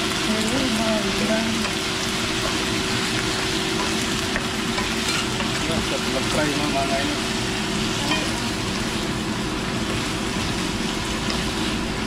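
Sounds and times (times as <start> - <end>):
beef sizzling in hot oil: 0.0 - 12.0.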